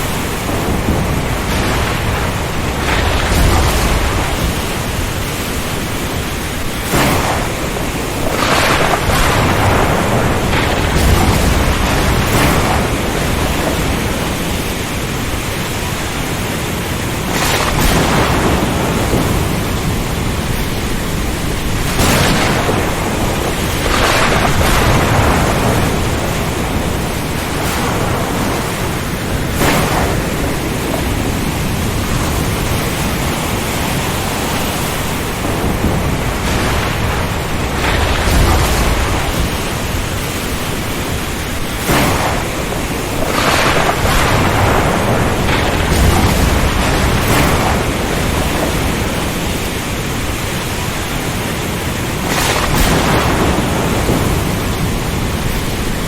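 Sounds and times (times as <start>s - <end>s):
low thunder rumbles: 0.0s - 56.0s
rain: 0.0s - 56.0s
surf: 0.0s - 56.0s
wind roaring: 0.0s - 56.0s.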